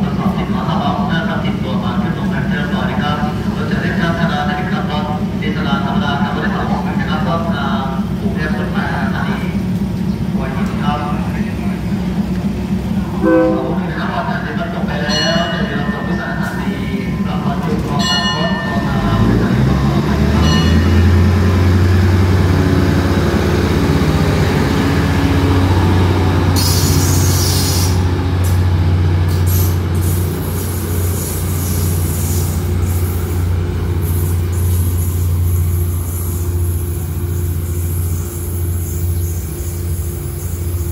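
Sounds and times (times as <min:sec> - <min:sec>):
diesel train engine drone: 0:00.0 - 0:40.9.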